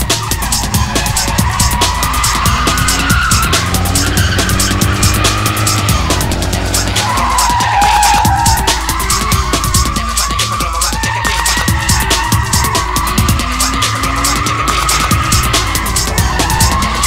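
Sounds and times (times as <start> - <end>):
car engine revving: 0.0 - 17.0
fast music beat: 0.0 - 17.0
tyres squealing: 0.0 - 17.0.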